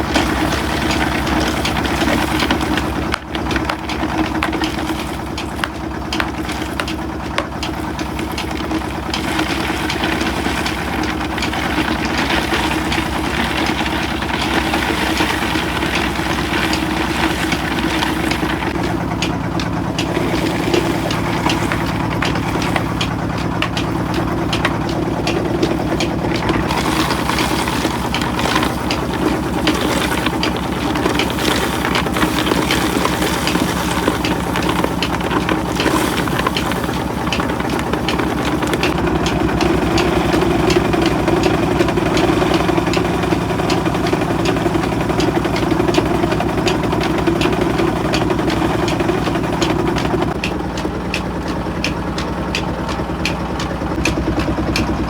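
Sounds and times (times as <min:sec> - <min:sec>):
crushing machinery humming: 0:00.0 - 0:55.0
fast regular knocking: 0:00.0 - 0:55.0.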